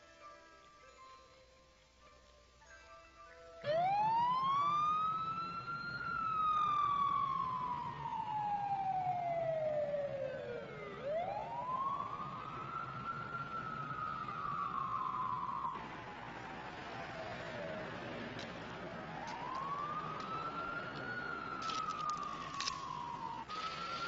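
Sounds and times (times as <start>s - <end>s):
siren wailing: 3.6s - 24.0s.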